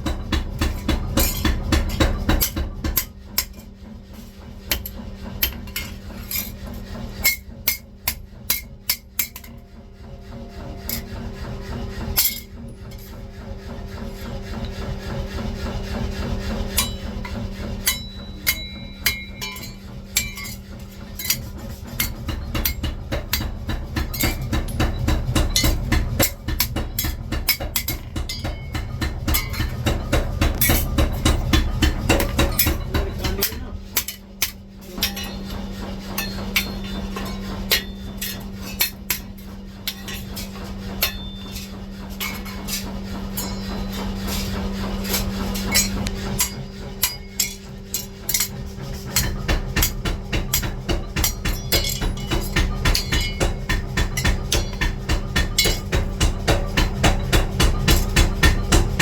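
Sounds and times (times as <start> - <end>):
hammer striking steel: 0.0 - 59.0
steady machine hum: 0.0 - 59.0.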